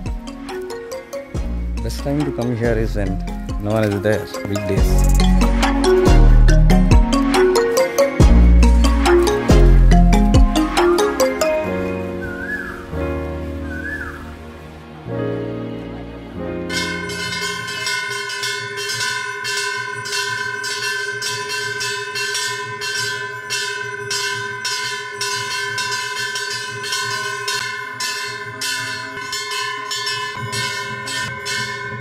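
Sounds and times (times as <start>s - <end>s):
bells rung rhythmically: 0.0s - 12.2s, 16.6s - 32.0s.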